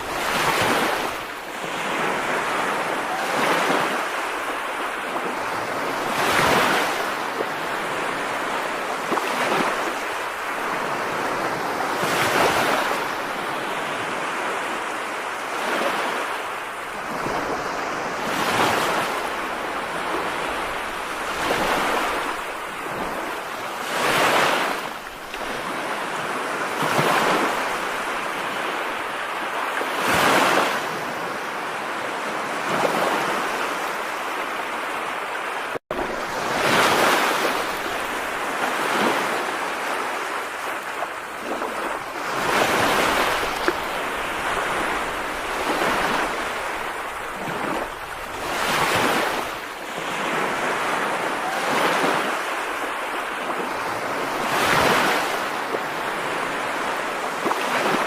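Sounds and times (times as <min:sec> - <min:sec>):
wind gusts: 0:00.0 - 0:58.0.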